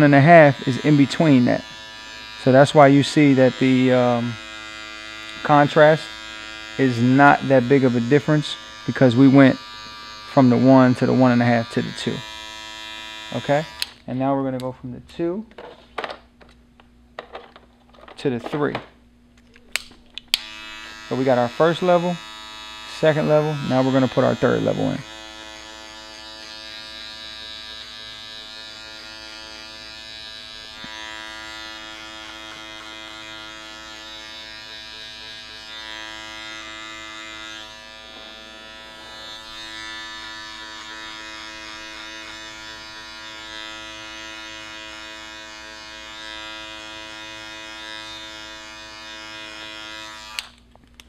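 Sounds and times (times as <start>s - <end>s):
electric hair clipper buzzing: 0.0s - 14.0s, 19.8s - 50.6s.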